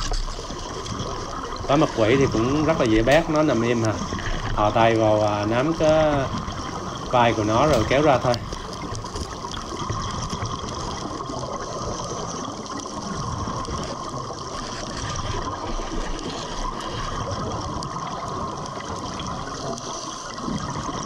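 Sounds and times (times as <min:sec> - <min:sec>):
underwater bubbling and trickling: 0:00.0 - 0:21.0.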